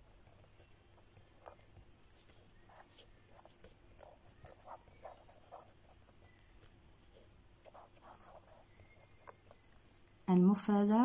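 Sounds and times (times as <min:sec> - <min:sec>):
felt-tip pen scratching on paper: 0:00.2 - 0:09.6.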